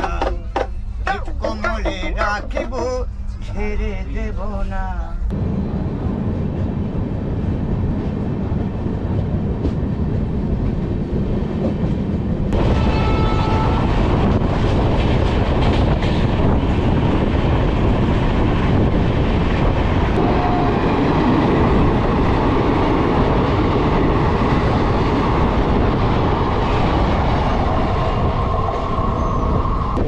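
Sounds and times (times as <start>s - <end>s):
passing train: 0.0s - 30.0s
train wheels rumbling on rails: 5.2s - 30.0s.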